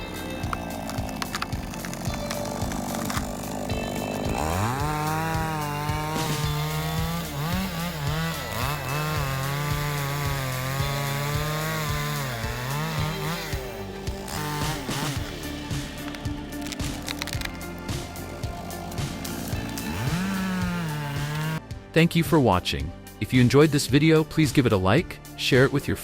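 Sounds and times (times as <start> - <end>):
chainsaw engine revving: 0.0 - 21.6.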